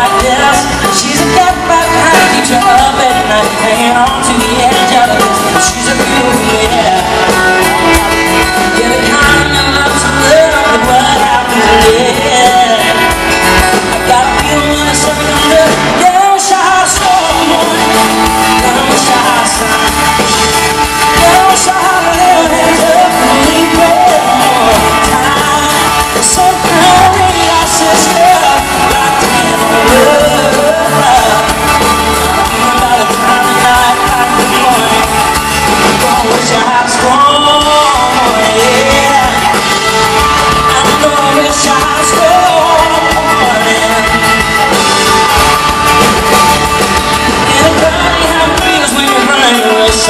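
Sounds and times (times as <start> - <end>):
live band playing country rock: 0.0 - 50.0
person singing: 0.0 - 50.0.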